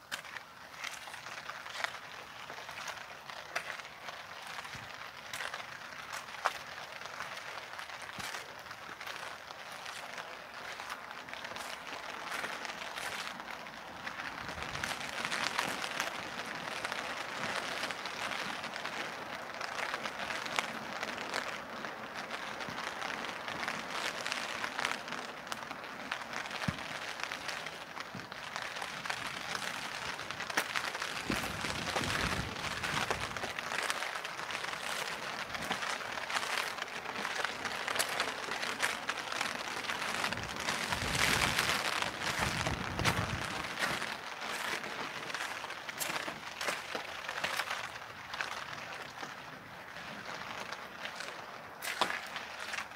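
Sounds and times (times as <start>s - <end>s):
steady rain patter: 0.0s - 52.9s.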